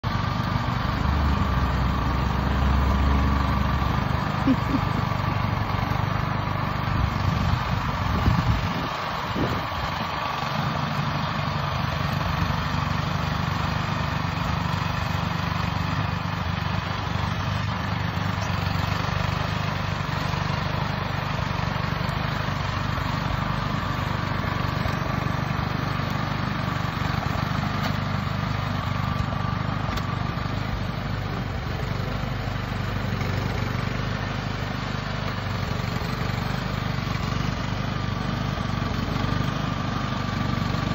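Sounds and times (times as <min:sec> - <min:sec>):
snowblower engine running: 0:00.0 - 0:40.9.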